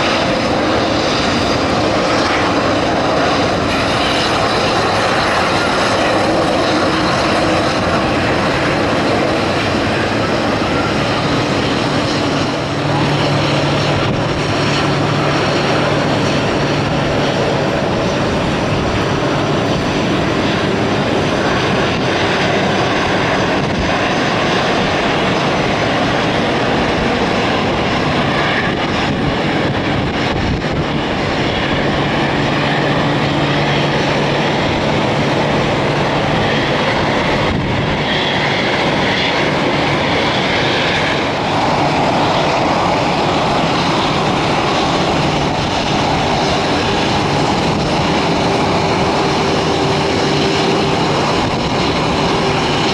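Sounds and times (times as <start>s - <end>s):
jet engines running: 0.0s - 52.9s
wind on microphone: 0.0s - 52.9s.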